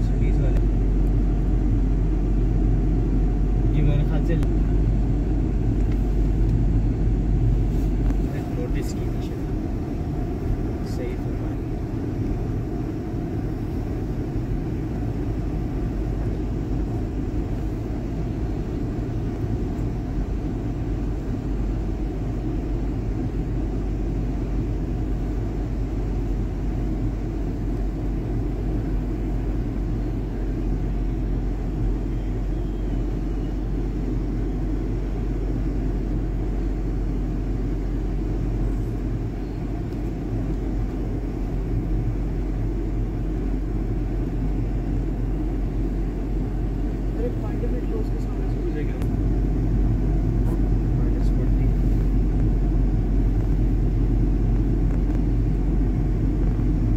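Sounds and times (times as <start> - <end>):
low rumble of vehicle engines: 0.0 - 56.9.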